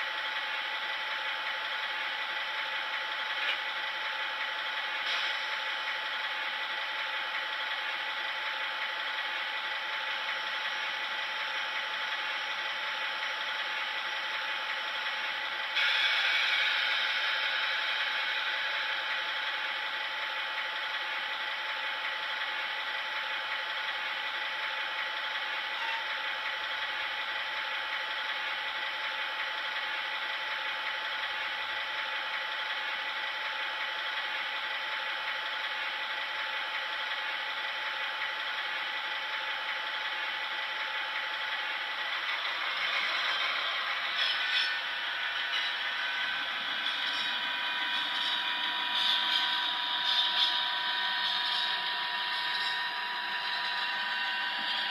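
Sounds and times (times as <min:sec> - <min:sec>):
diesel locomotive engine from small speaker: 0:00.0 - 0:54.9.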